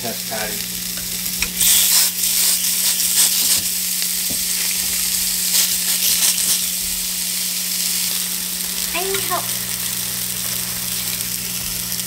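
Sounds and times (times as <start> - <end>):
sausage patties sizzling in skillet: 0.0 - 12.0.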